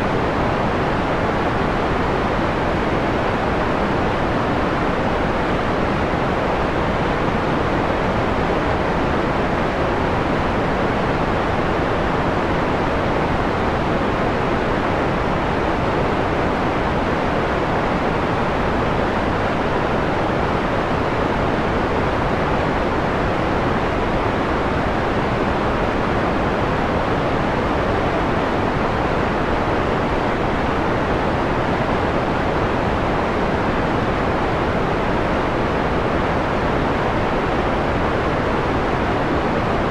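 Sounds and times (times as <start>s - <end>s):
filtered white noise: 0.0s - 39.9s.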